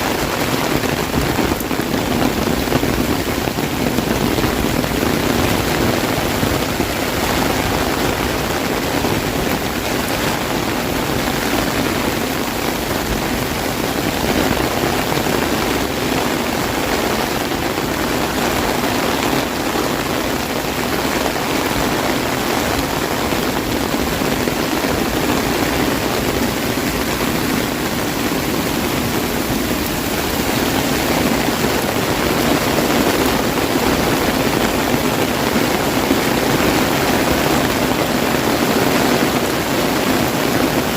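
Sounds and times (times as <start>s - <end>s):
heavy rain on an umbrella: 0.0s - 40.9s.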